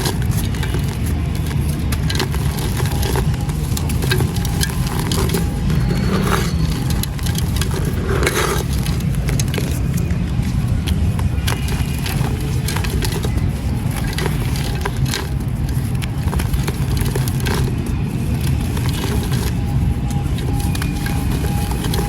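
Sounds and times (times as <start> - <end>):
sand-cement crumbs crunching: 0.0 - 22.0
steady low rumble: 0.0 - 22.0.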